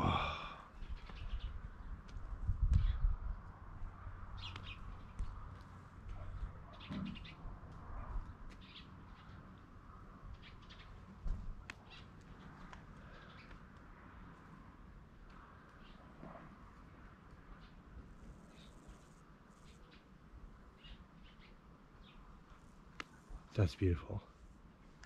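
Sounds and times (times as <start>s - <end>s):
birds chirping: 0.0s - 3.1s, 4.1s - 14.6s, 16.8s - 24.2s.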